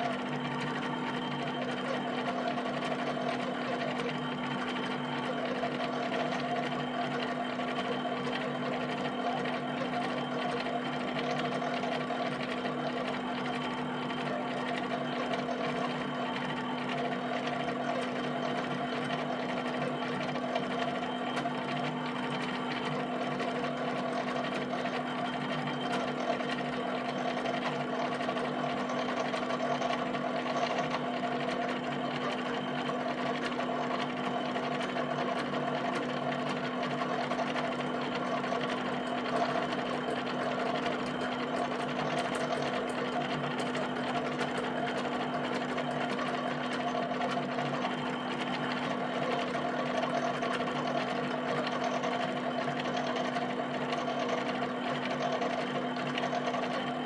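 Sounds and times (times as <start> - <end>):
pen plotter mechanical whirring: 0.0 - 57.0.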